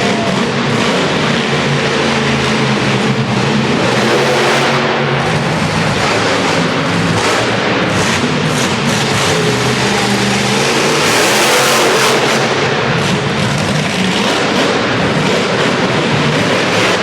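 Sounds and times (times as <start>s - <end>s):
truck engine running loud: 0.0s - 17.0s.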